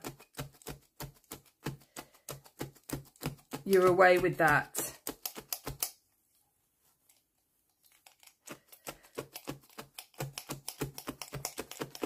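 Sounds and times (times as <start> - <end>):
felting needles tapping: 0.0 - 6.0, 7.1 - 12.0.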